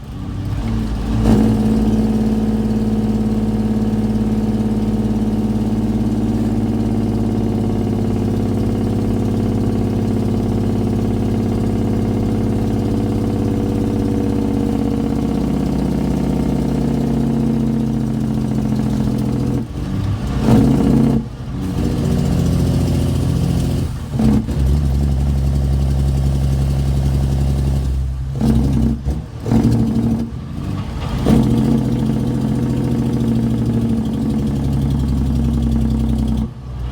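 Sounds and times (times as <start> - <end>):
truck diesel engine surging: 0.0 - 36.9.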